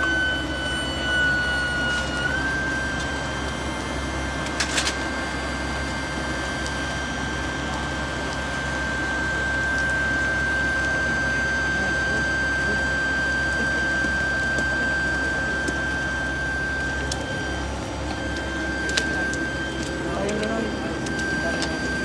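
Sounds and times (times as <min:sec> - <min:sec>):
turbine whine: 0:00.0 - 0:22.0.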